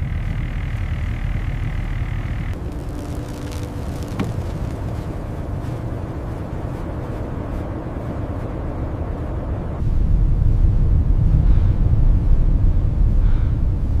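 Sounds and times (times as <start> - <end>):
blizzard wind rumble: 0.0 - 14.0.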